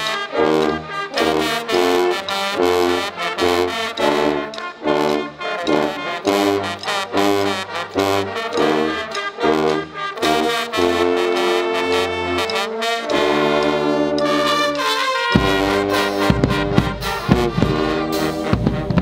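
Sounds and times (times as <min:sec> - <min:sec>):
brass band playing chords: 0:00.0 - 0:19.0.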